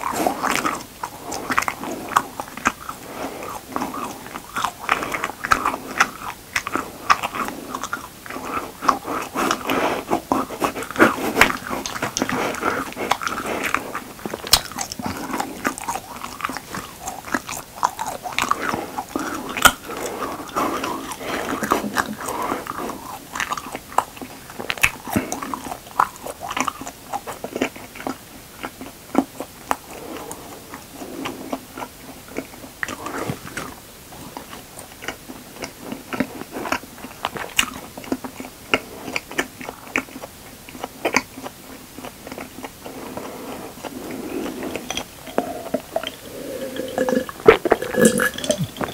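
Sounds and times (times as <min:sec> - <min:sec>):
chewing with wet mouth clicks: 0:00.0 - 0:48.9.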